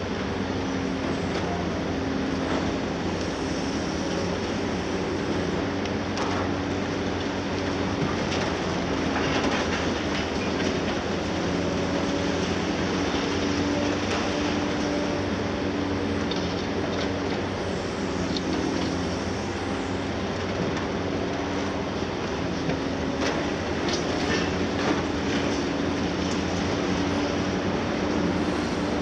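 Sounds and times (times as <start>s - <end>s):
excavator diesel engines running: 0.0s - 29.0s.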